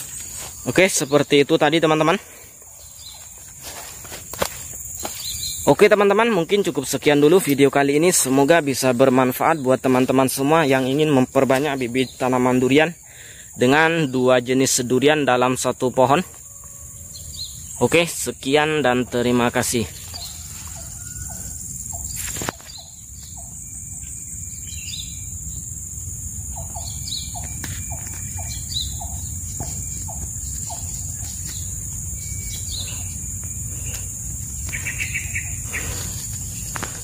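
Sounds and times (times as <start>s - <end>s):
birds chirping: 0.0s - 37.0s
insect drone: 0.0s - 37.0s.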